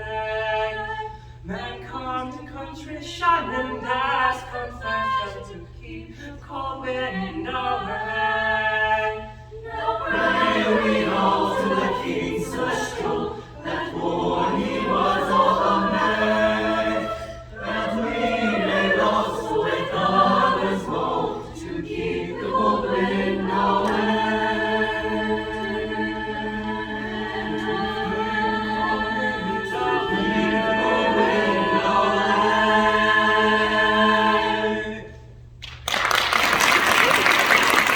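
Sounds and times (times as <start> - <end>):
choir singing a cappella: 0.0 - 35.4
steady low hum: 0.0 - 35.7.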